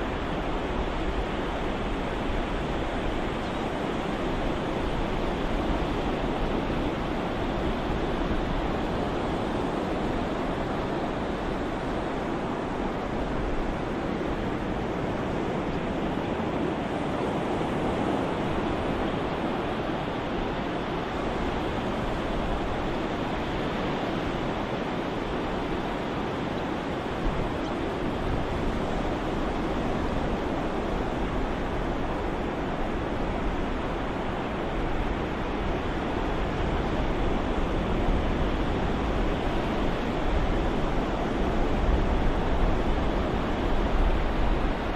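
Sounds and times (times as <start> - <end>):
ocean surf wash: 0.0 - 44.9.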